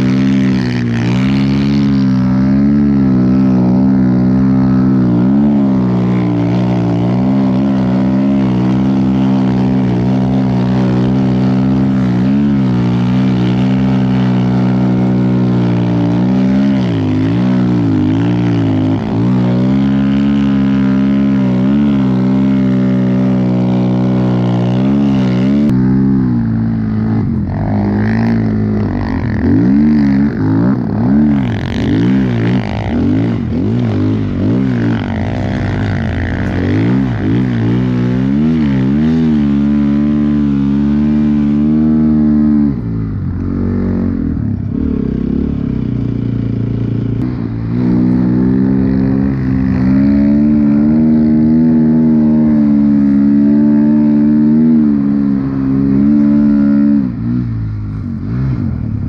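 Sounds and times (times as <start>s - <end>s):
dirt-bike engine revving: 0.0s - 59.0s.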